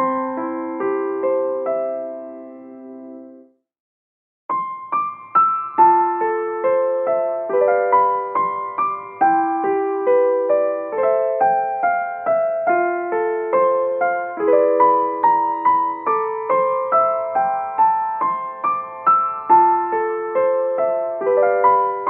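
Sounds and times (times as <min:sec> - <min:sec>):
gentle piano melody: 0:00.0 - 0:03.6, 0:04.5 - 0:22.0.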